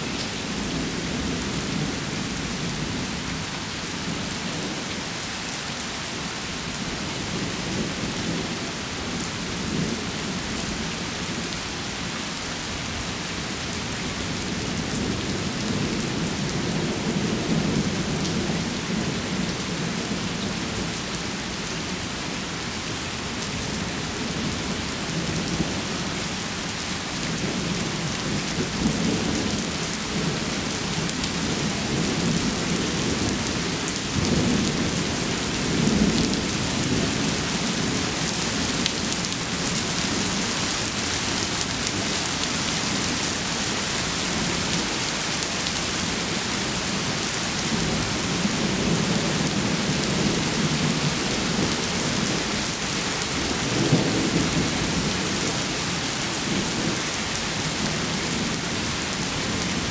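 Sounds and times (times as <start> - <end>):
rain falling on pavement: 0.0 - 59.9.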